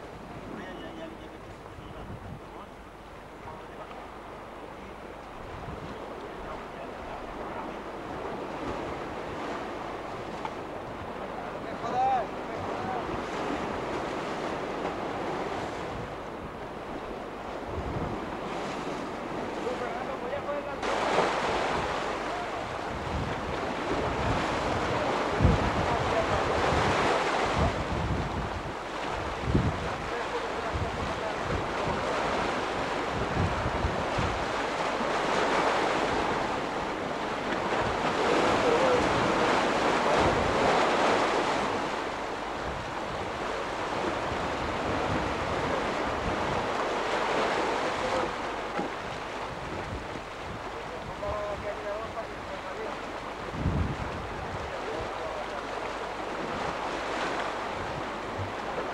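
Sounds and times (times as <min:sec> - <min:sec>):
wind buffeting microphone: 0:00.0 - 0:19.7, 0:20.8 - 0:58.9
waves washing around rocks: 0:00.0 - 0:58.9.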